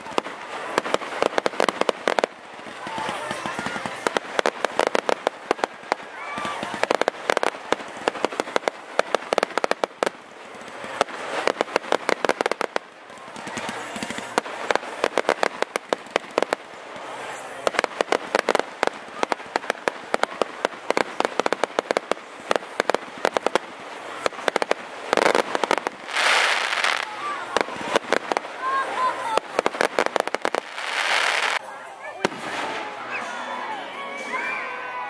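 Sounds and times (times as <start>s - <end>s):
fireworks cracking and popping: 0.0s - 33.1s.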